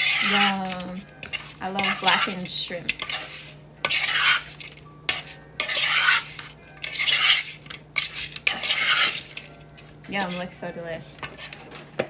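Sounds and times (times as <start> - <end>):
utensil scraping a bowl: 0.0 - 12.0.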